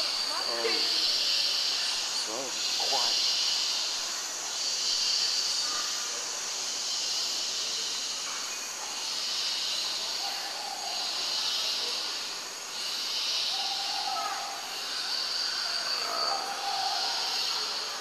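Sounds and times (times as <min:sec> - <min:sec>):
pulsing steady hiss: 0:00.0 - 0:18.0.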